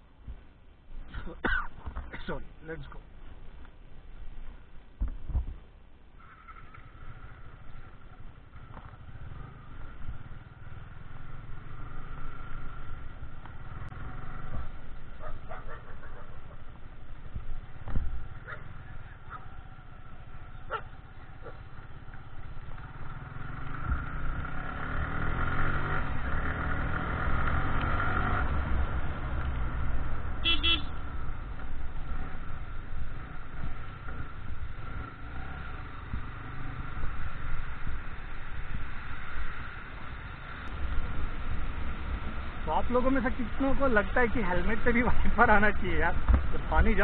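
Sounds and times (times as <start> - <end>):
motorcycle engine running: 6.2 - 47.0.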